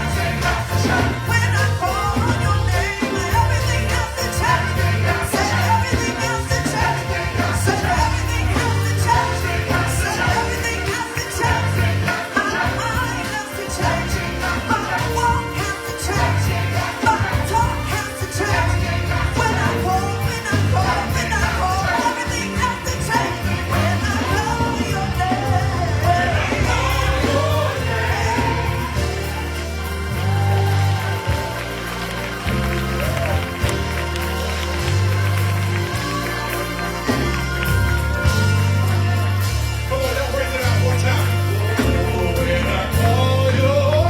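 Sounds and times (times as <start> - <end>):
choir singing: 0.0 - 44.0
drums: 0.0 - 44.0
pulsing bass line: 0.0 - 44.0.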